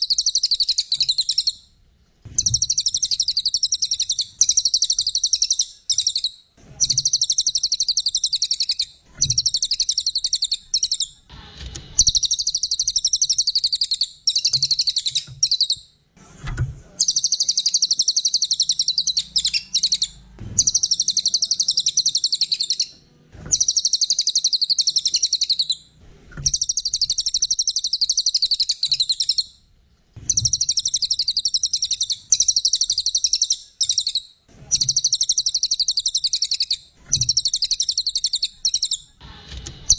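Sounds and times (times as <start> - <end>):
songbird chattering: 0.0 - 1.6, 2.3 - 11.2, 12.0 - 15.8, 17.0 - 25.8, 26.5 - 29.5, 30.3 - 39.1.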